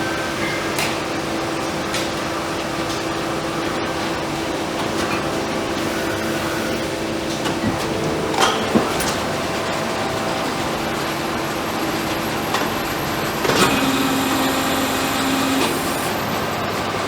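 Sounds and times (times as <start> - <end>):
machinery running: 0.0 - 17.0.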